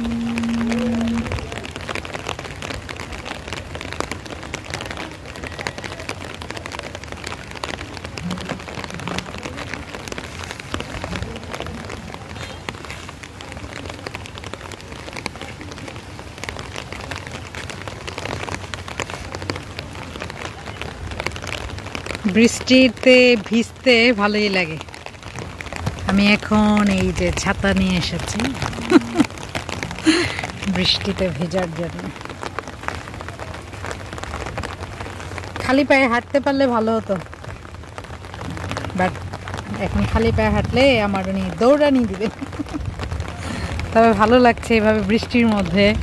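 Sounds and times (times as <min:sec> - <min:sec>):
rain pattering: 0:00.0 - 0:46.0.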